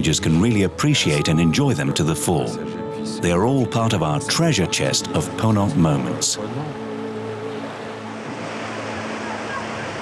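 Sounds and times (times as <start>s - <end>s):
sea water rushing: 0.0s - 10.0s.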